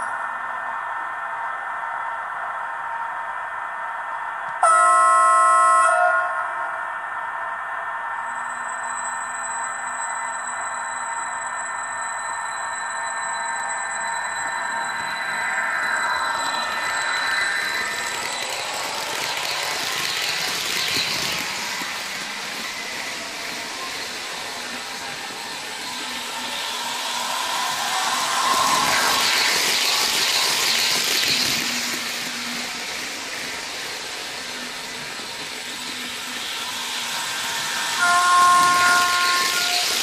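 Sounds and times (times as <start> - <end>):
model train running on track: 0.0 - 6.6, 7.9 - 40.0
train running sound effect: 0.0 - 40.0.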